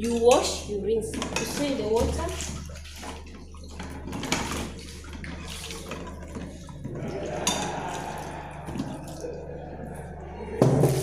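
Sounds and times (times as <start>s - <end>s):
water sloshing in a basin: 0.0s - 11.0s.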